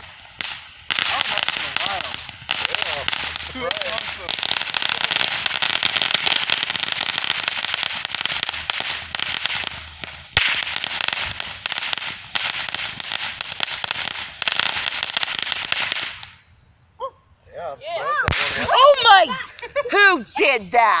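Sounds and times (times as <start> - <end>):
firework loud sharp bang: 0.0 - 16.4, 18.2 - 18.8
fireworks crackling: 0.0 - 16.5, 18.0 - 20.5.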